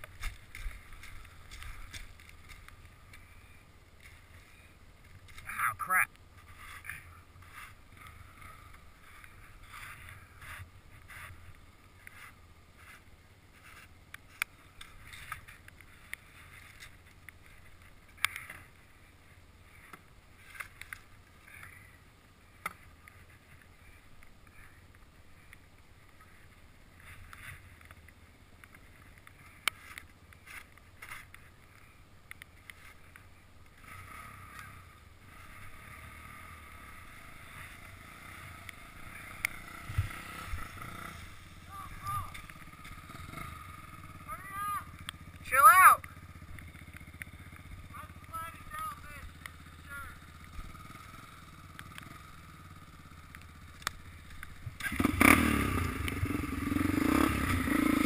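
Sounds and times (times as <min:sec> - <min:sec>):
quad engine rumbling: 0:00.0 - 0:58.0.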